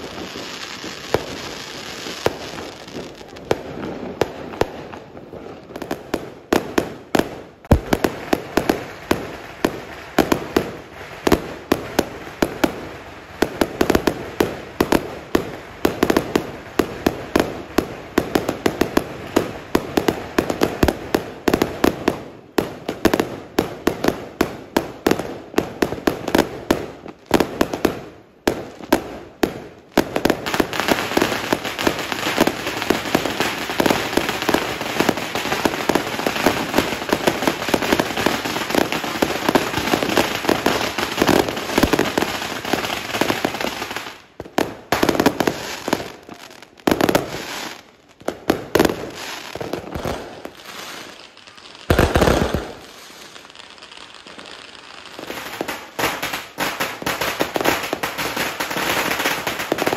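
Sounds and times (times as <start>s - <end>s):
fireworks bangs: 0.0s - 59.9s
fireworks crackling and popping: 0.0s - 59.9s.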